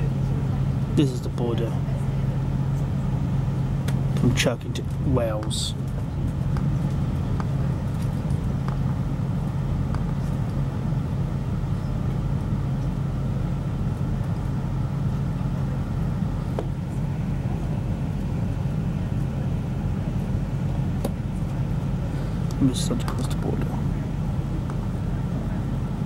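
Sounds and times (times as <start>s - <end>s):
train engine drone: 0.0s - 26.0s
wheel on rail rumble: 0.0s - 26.0s.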